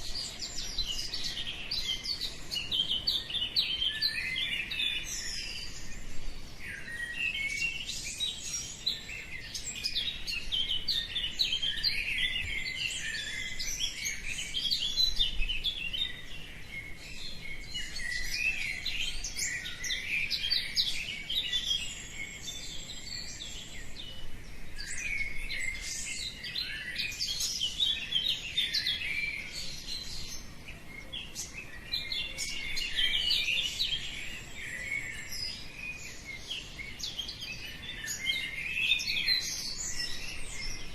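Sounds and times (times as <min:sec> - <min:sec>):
many birds chirping and singing: 0:00.0 - 0:40.9.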